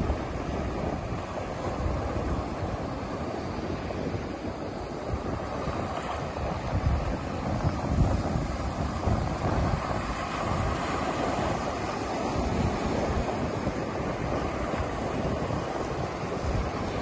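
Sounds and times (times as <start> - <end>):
waves breaking over rocks: 0.0 - 17.0
wind buffeting microphone: 0.0 - 17.0.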